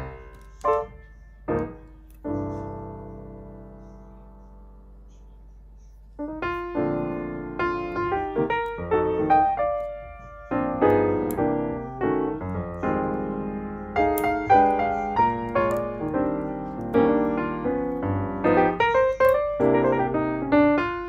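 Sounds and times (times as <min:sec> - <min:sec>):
piano melody: 0:00.0 - 0:05.2, 0:06.2 - 0:21.0.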